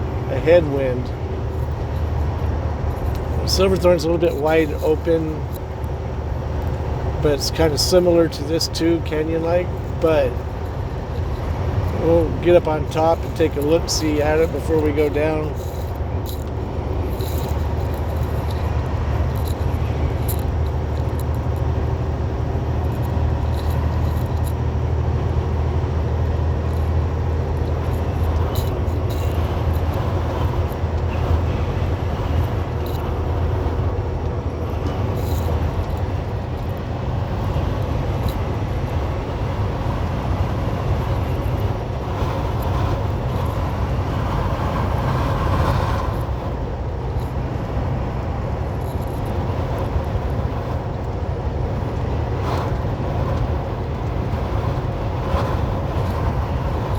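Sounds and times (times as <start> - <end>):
truck diesel engine running: 0.0 - 56.9
wind and road noise: 0.0 - 56.9.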